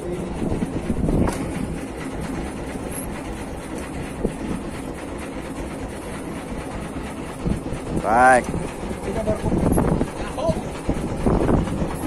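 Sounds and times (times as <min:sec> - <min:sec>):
choppy water around boat: 0:00.0 - 0:12.0
wind: 0:00.0 - 0:12.0.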